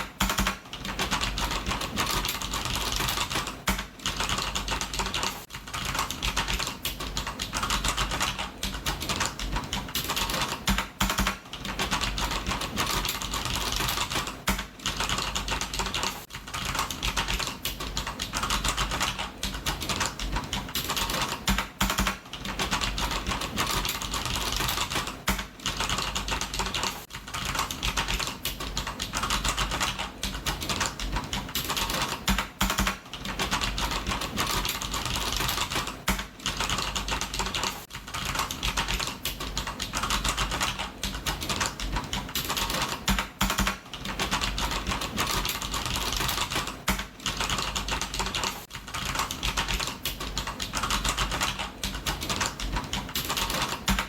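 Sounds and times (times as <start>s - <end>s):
computer keyboard typing: 0.0s - 54.0s.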